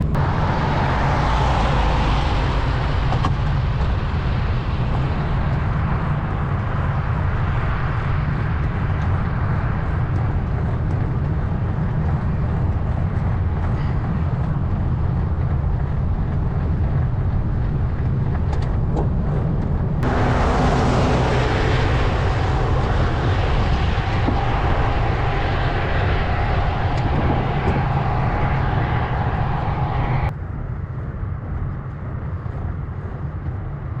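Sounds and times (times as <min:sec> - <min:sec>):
steady whine: 0:00.0 - 0:30.6
wind and road noise: 0:00.0 - 0:34.0.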